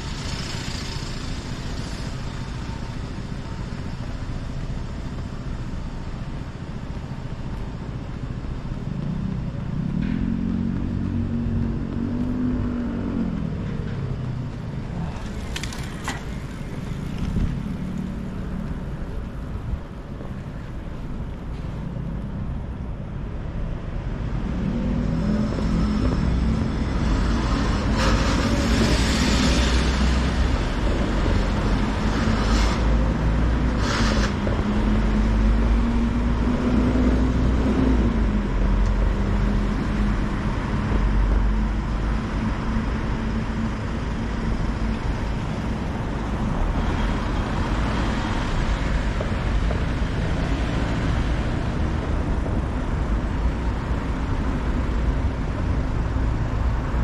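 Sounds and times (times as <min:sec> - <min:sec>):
vehicle engines humming: 0:00.0 - 0:57.0.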